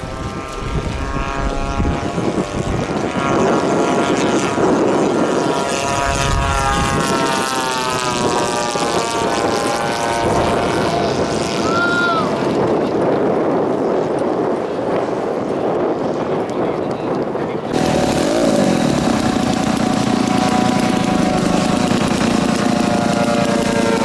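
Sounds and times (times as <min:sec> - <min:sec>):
model airplane engine drone: 0:00.0 - 0:24.0.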